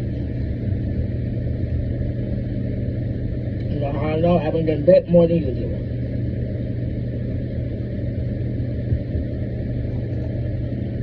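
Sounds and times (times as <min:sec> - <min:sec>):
low mechanical hum with rumble: 0:00.0 - 0:11.0.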